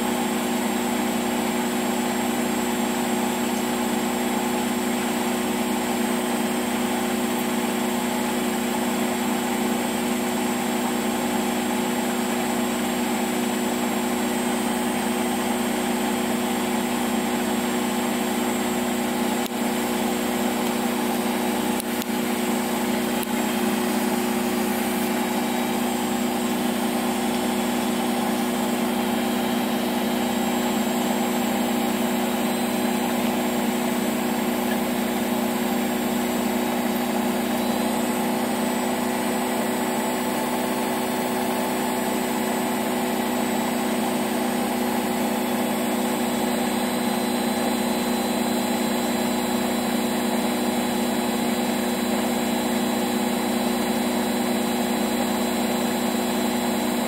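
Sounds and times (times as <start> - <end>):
washing machine drum spinning: 0.0 - 57.0.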